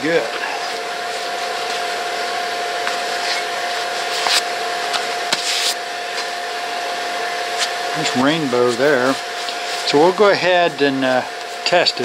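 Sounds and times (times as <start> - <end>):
gas forge blower hissing: 0.0 - 12.0.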